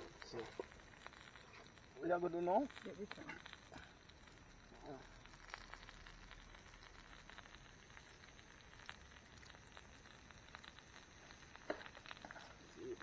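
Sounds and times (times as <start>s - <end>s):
pork sizzling on a griddle: 0.0s - 13.0s.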